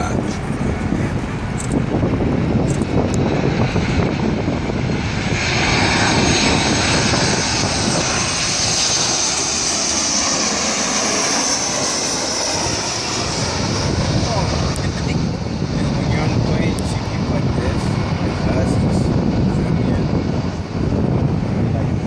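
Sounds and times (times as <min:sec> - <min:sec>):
jet engine rumble: 0:00.0 - 0:22.0
jet engines hissing whine: 0:00.0 - 0:22.0.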